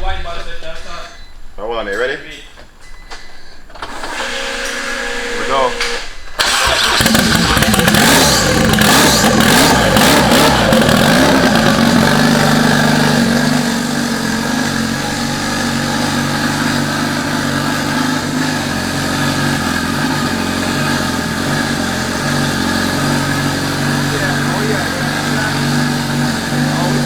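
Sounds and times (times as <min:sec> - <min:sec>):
car engine idling: 0:04.8 - 0:27.0.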